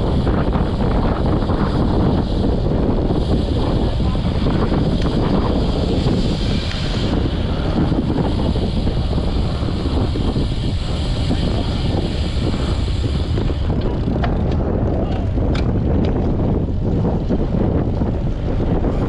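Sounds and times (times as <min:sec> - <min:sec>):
bicycle tyre road noise: 0:00.0 - 0:19.0
wind buffeting microphone: 0:00.0 - 0:19.0.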